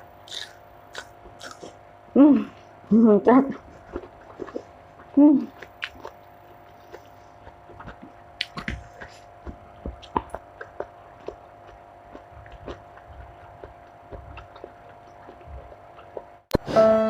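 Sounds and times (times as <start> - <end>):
faint steady hum: 0.0 - 17.0
chewing: 0.1 - 1.8, 3.4 - 16.6.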